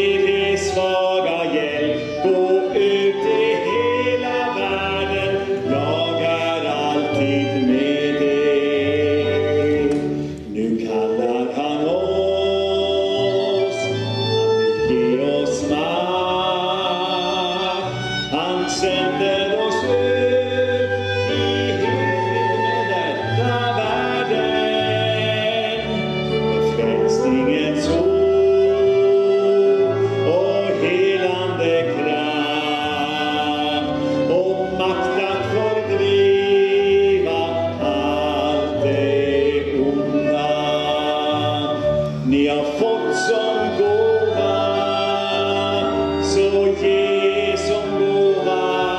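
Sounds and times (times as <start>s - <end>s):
flute: 0.0s - 48.9s
person singing: 0.0s - 48.9s
violin: 0.0s - 48.9s.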